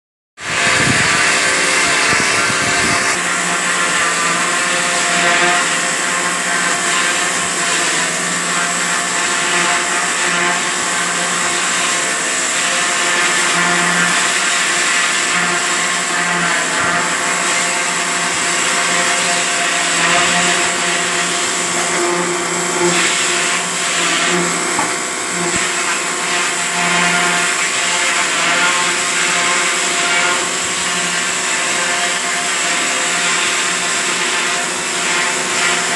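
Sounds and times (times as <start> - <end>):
small electric motor whining: 0.4 - 35.9.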